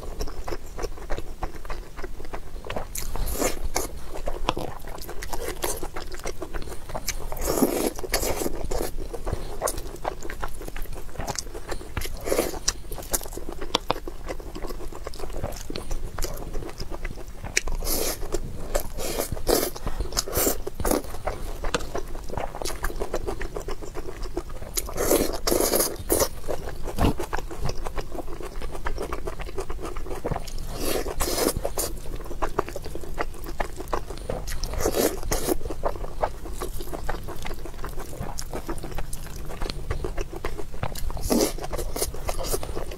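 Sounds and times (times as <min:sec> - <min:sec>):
wet chewing: 0:00.0 - 0:42.9.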